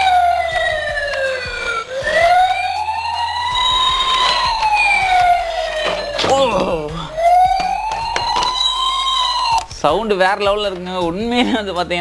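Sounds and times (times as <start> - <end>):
electronic wailing siren: 0.0 - 9.9.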